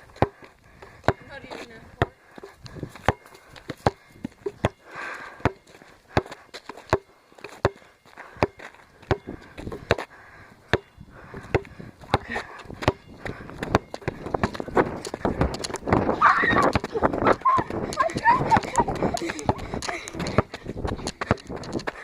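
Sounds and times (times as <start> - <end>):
basketballs bouncing on hard surface: 0.0 - 10.1, 10.7 - 22.0.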